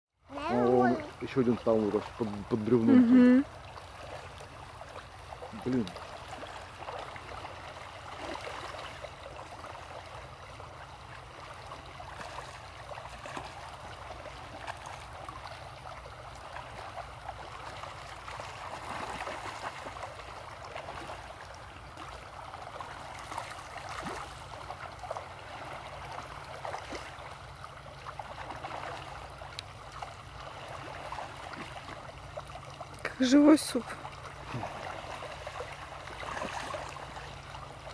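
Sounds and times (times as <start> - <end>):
shallow stream flowing: 0.2 - 37.9
fish splashing at surface: 3.5 - 37.9.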